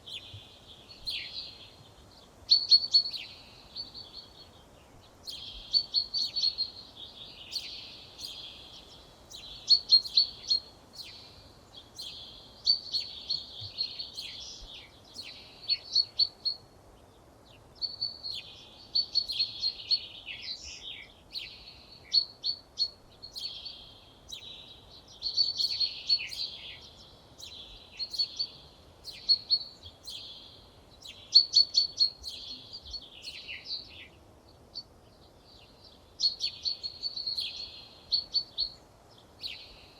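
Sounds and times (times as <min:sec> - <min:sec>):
faint outdoor background: 0:00.0 - 0:39.9
songbird singing: 0:00.0 - 0:39.9.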